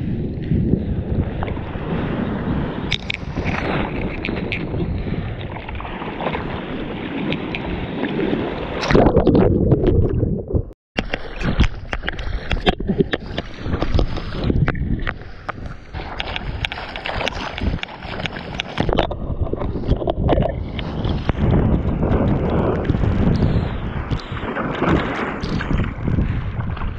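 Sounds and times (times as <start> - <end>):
wind on microphone: 0.0 - 26.9
water rushing against surfboard: 1.4 - 26.9.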